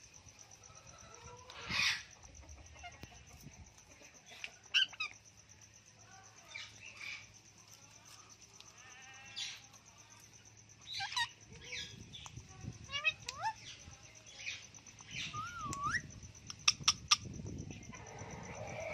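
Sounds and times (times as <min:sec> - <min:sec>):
high insect trill: 0:00.0 - 0:18.9.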